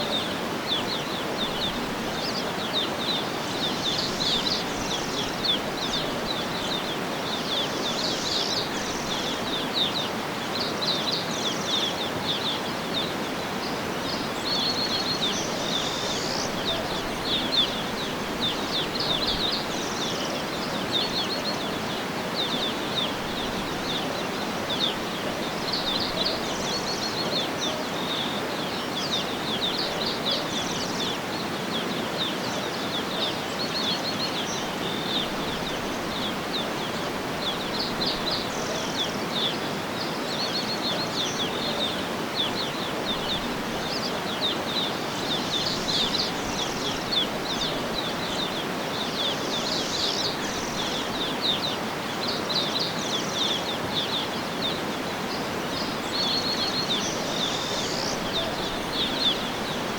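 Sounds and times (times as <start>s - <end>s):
outdoor background hiss: 0.0s - 59.9s
songbirds chirping and trilling: 0.0s - 59.9s.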